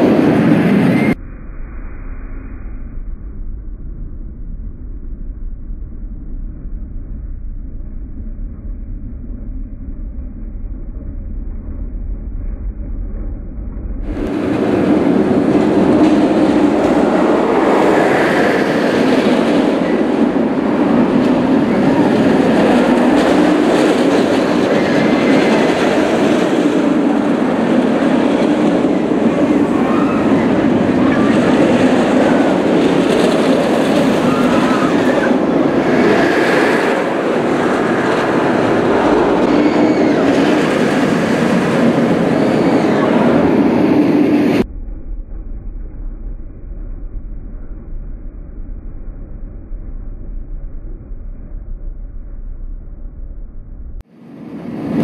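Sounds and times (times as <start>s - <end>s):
roller coaster rumbling on rails: 0.0s - 55.0s.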